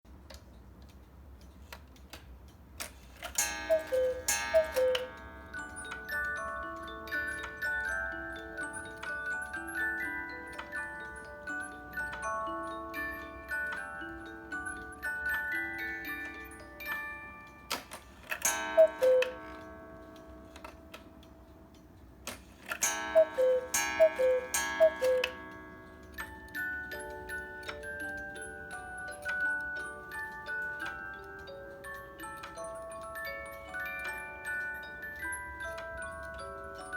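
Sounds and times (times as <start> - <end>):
clock pendulum ticking: 0.8 - 36.9
cuckoo clock calling: 2.9 - 36.9
music box playing a tune: 3.0 - 36.9.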